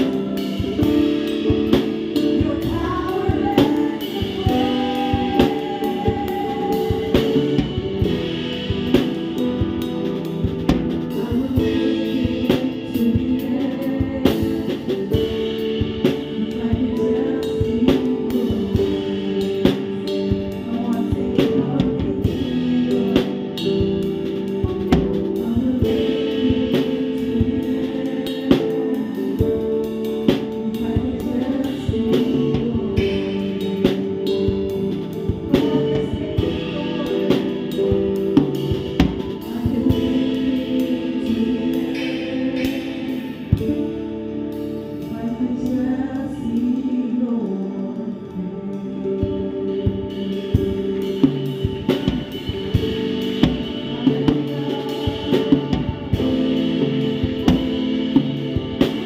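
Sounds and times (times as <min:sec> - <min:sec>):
drum kit beat: 0:00.0 - 0:47.0, 0:48.6 - 0:59.0
live worship band: 0:00.0 - 0:59.0.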